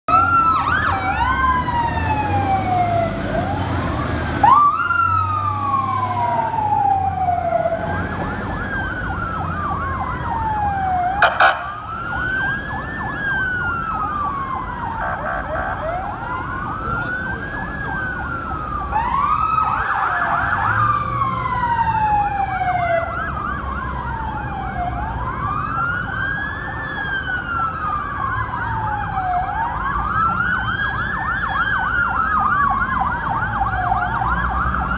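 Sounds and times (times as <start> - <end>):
emergency sirens wailing: 0.0 - 34.9.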